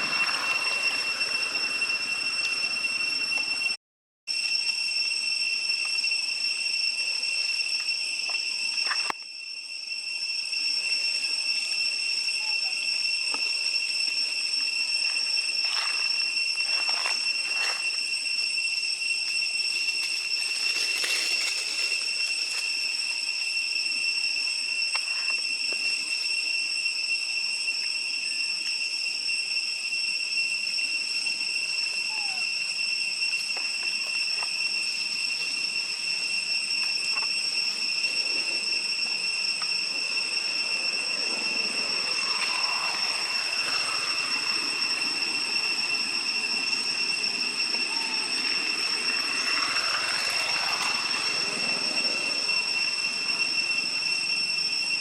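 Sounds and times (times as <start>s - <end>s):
high-pitched buzzing drone: 0.0s - 55.0s.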